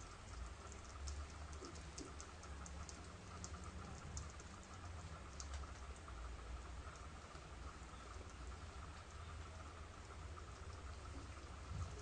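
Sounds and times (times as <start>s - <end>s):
hedgehog chewing: 0.0s - 12.0s.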